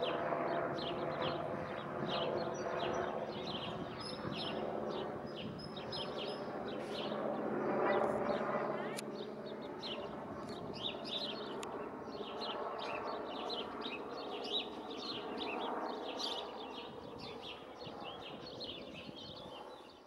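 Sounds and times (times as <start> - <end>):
helicopter passing overhead: 0.0 - 20.0
small birds chirping: 0.1 - 20.0.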